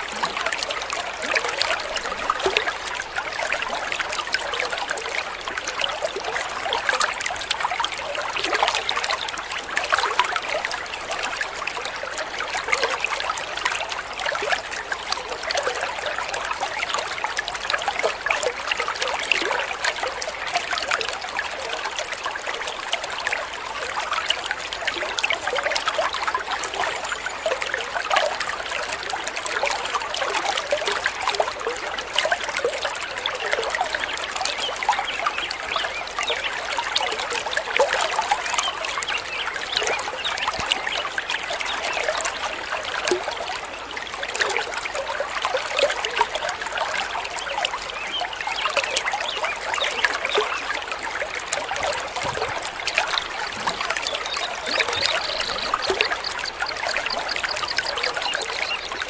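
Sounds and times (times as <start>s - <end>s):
water babbling over stones: 0.0s - 59.0s.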